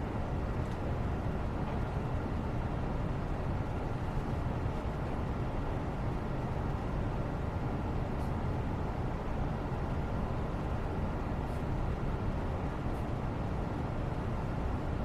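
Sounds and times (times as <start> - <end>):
low white-noise rumble: 0.0 - 15.0.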